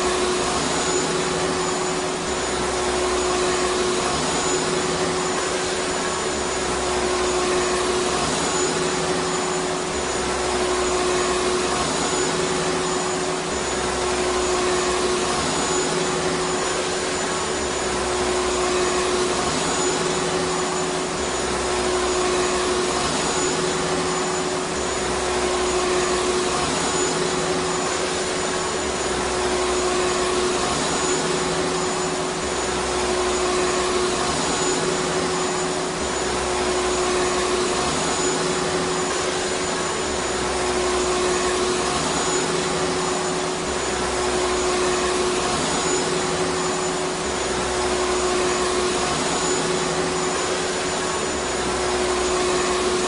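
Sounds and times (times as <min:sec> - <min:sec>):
vacuum cleaner motor running: 0:00.0 - 0:53.0.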